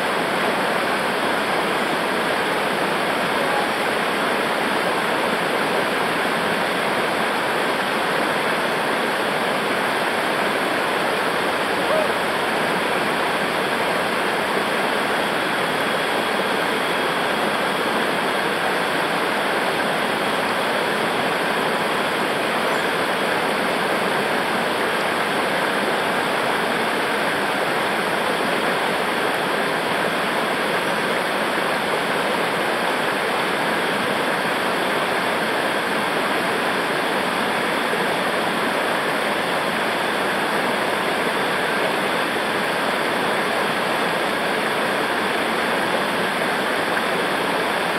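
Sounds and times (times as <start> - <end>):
river water rushing: 0.0 - 47.9.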